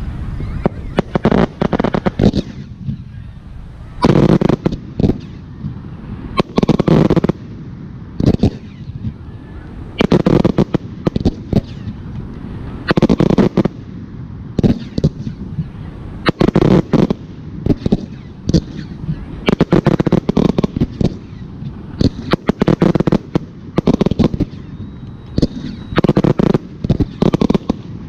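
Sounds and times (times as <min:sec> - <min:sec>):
firework shells bursting: 0:00.6 - 0:03.0, 0:04.0 - 0:07.5, 0:08.2 - 0:09.2, 0:09.9 - 0:13.9, 0:14.6 - 0:28.0.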